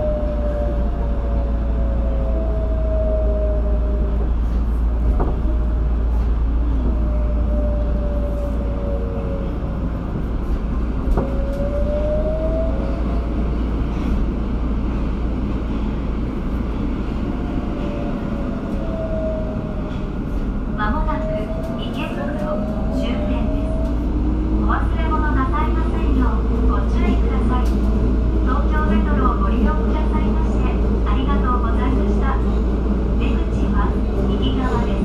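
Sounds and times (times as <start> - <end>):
subway car low rumble: 0.0 - 35.0.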